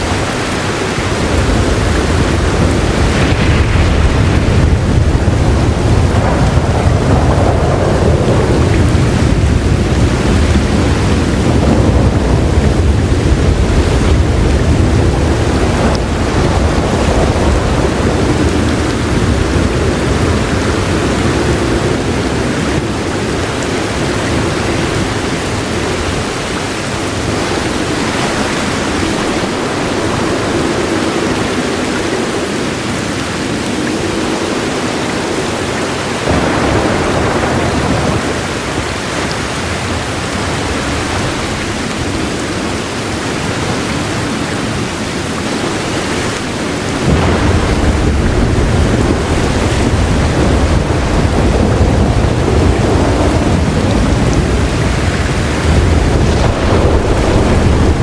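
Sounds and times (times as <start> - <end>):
low thunder roll: 0.0 - 32.5, 33.6 - 58.0
heavy rain: 0.0 - 58.0.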